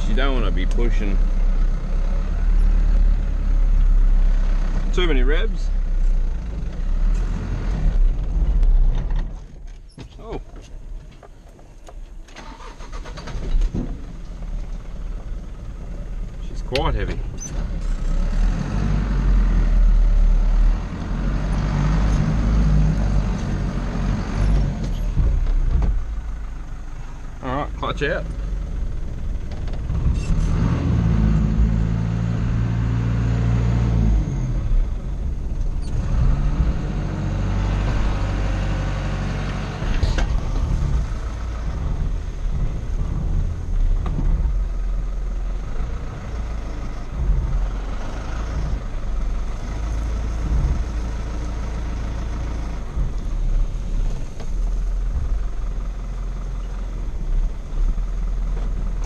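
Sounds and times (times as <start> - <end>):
truck engine revving: 0.0 - 9.1, 12.4 - 26.5, 27.8 - 59.0.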